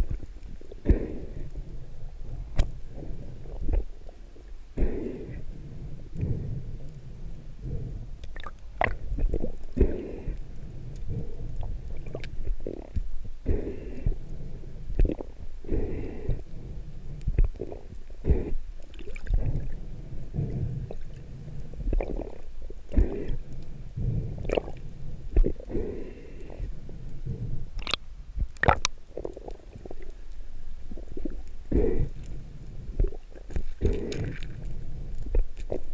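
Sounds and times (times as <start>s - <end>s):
muffled underwater rumble: 0.0s - 35.9s.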